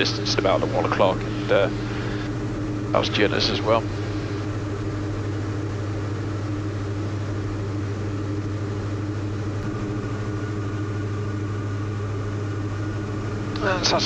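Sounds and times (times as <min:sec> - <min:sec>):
aircraft engines humming in cockpit: 0:00.0 - 0:14.0.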